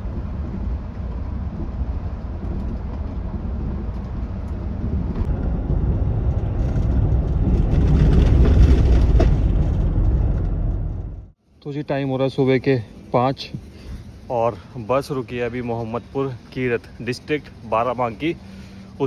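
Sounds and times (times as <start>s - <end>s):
diesel engine rumble: 0.0s - 11.4s, 12.9s - 19.0s
tyres on road: 0.0s - 11.4s, 12.9s - 19.0s.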